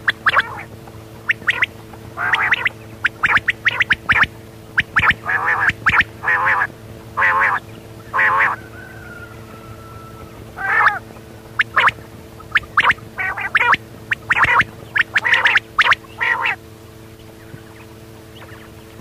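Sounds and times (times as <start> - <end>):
quail calling: 0.0 - 19.0
steady low hum: 0.0 - 19.0.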